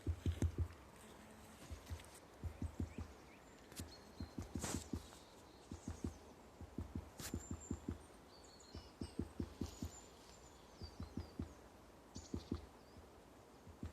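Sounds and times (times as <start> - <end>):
woodpecker tapping on wood: 0.0 - 0.9, 1.6 - 10.1, 10.8 - 11.6, 12.2 - 13.9
small birds chirping: 0.0 - 13.9.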